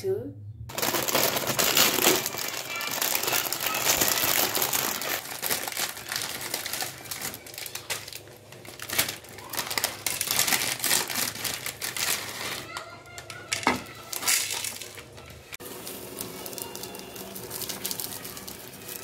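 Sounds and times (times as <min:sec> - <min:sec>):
plastic film wrapping crinkling: 0:00.7 - 0:19.0.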